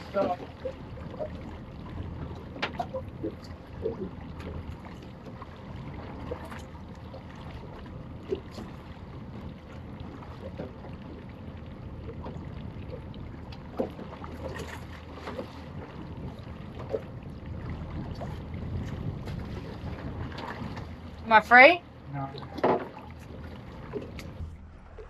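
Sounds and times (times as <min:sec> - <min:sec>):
water noise: 0:00.0 - 0:25.0
wind: 0:00.0 - 0:25.0.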